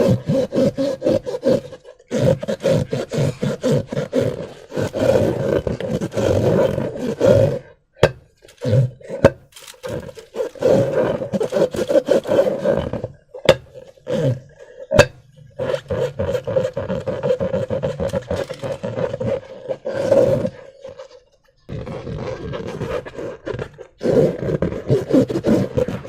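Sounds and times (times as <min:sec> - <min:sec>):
rubber balloons squeezed buzzing rasp: 0:00.0 - 0:26.0.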